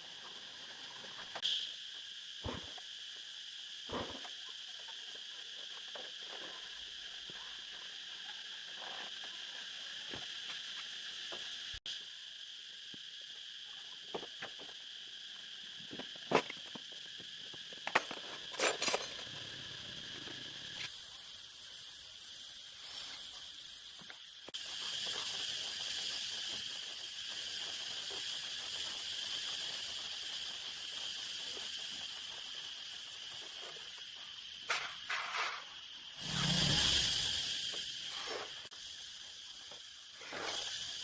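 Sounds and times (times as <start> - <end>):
high-pitched insect chirring: 0.0 - 41.0.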